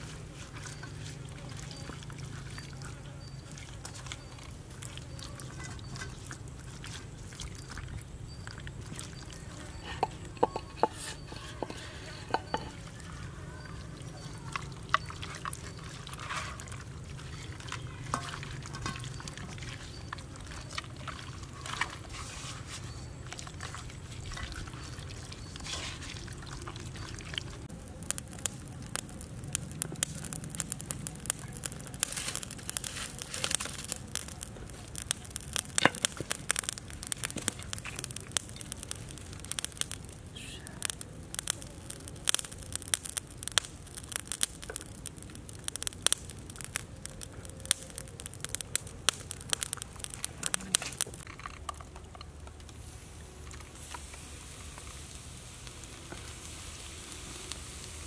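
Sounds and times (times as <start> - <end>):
bamboo sticks crackling and clicking: 0.0 - 58.0.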